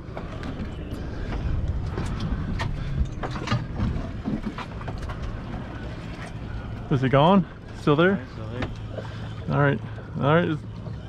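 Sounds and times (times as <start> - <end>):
wind and water against hull: 0.0 - 11.0.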